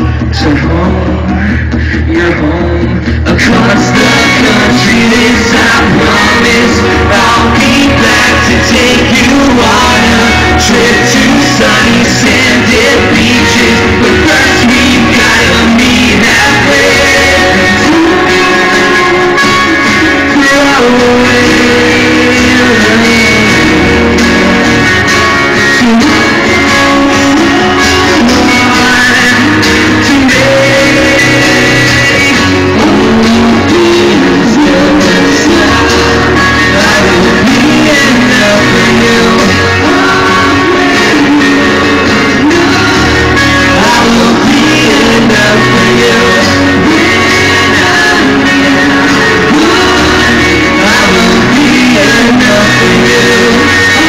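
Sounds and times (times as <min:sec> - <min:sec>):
live rock band playing: 0:00.0 - 0:54.0
man singing: 0:00.0 - 0:54.0.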